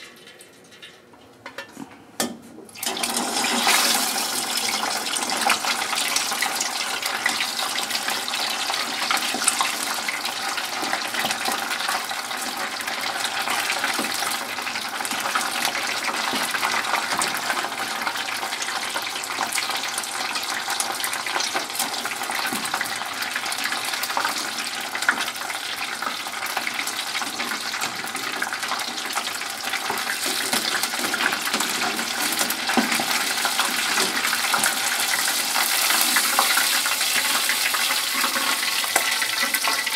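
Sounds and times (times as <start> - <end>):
deep-frying sizzle with crackling: 2.8 - 39.9.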